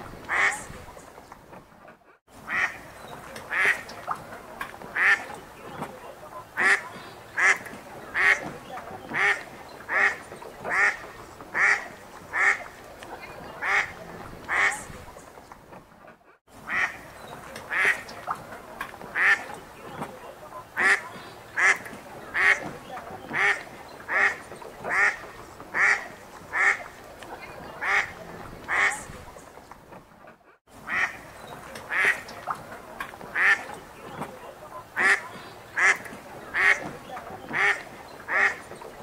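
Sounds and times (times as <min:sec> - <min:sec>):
duck quacking: 0:00.2 - 0:00.8, 0:02.4 - 0:04.2, 0:05.0 - 0:15.0, 0:16.6 - 0:18.4, 0:19.1 - 0:29.2, 0:30.8 - 0:38.8.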